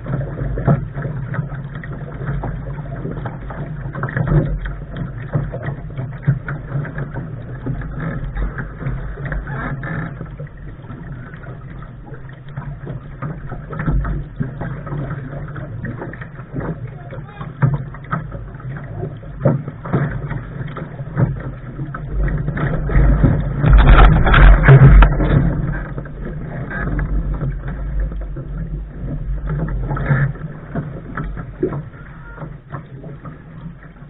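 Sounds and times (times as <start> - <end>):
boat knocks and thumps: 0.0 - 34.0
wind and water rushing: 0.0 - 34.0.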